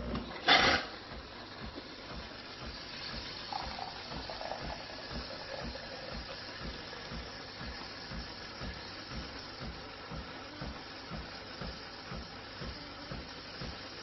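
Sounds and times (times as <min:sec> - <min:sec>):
espresso machine hissing: 0:00.0 - 0:14.0
low pump pulse: 0:00.0 - 0:14.0.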